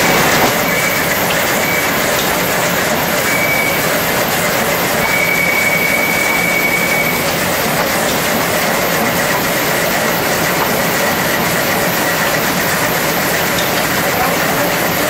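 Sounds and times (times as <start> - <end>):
line shafting mechanical clatter: 0.0 - 15.0.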